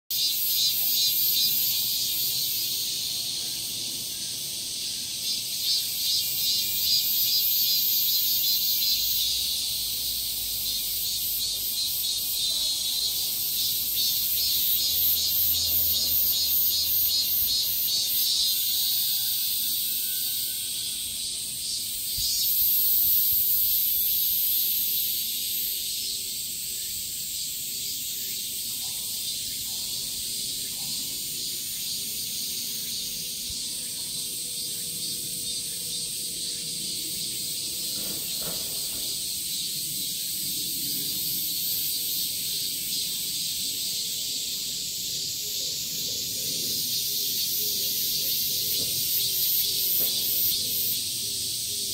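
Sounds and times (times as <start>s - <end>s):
cicadas buzzing chorus: 0.0s - 51.9s
high-pitched hiss: 0.1s - 51.9s.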